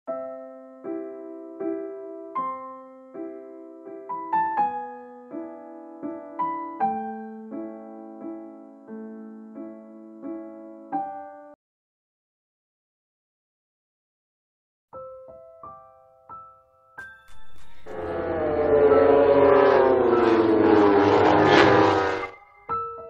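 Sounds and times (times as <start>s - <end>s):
slow piano chords: 0.1s - 11.6s, 15.0s - 23.0s.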